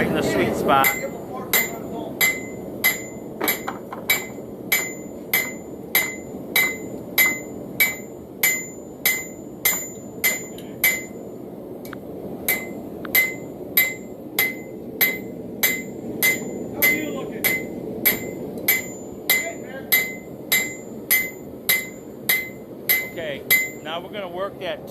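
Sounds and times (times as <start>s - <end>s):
hammer ringing on anvil: 0.8s - 11.2s, 12.5s - 24.0s.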